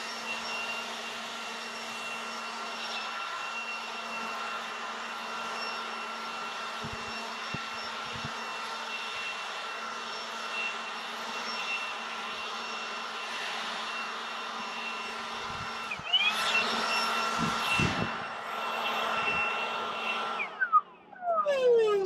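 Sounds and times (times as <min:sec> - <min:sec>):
leaf blower air rush: 0:00.0 - 0:20.9
electric motor whine: 0:00.0 - 0:22.0.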